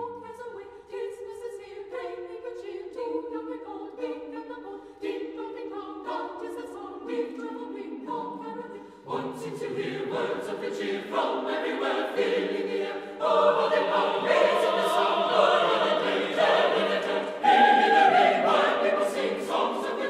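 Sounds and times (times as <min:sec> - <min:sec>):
choir singing chords: 0:00.0 - 0:20.0.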